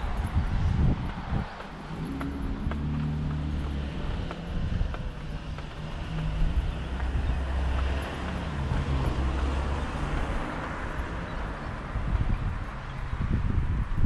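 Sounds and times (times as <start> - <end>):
vehicle passing: 0.0 - 13.5.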